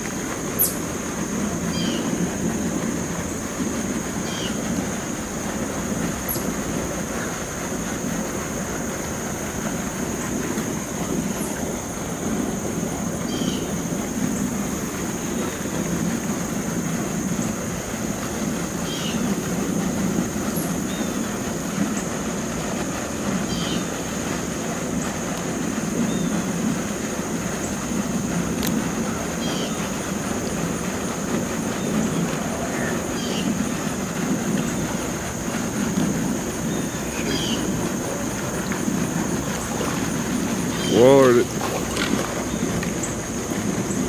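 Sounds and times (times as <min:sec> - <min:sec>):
low rumbling background noise: 0:00.0 - 0:44.0.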